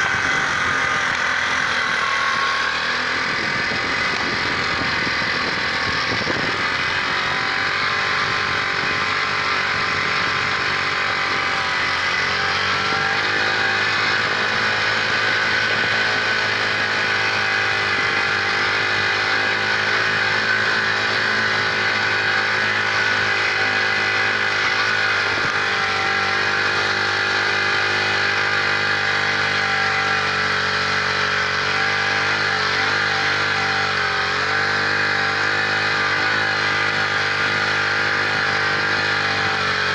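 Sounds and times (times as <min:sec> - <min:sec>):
minibike engine running: 0:00.0 - 0:39.9.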